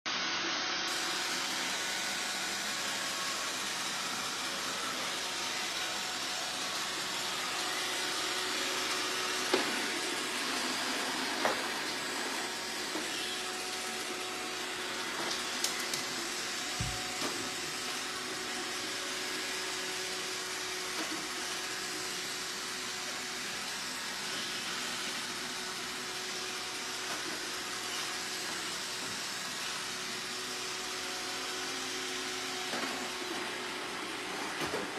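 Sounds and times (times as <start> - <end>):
robot vacuum whirring hum: 0.1 - 34.9.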